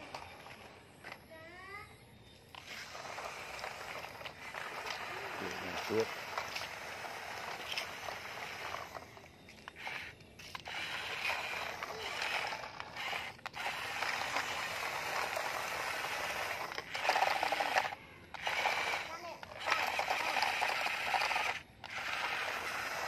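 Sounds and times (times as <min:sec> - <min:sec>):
toy truck motor whirring: 0:00.0 - 0:23.0.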